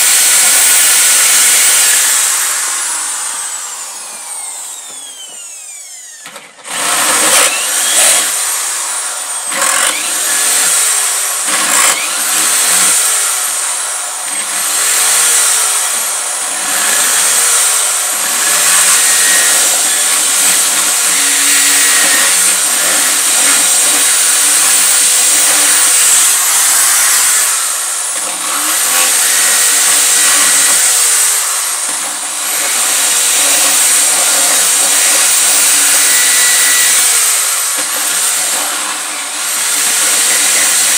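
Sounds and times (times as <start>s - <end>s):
electric drill boring into wood: 0.0s - 40.9s.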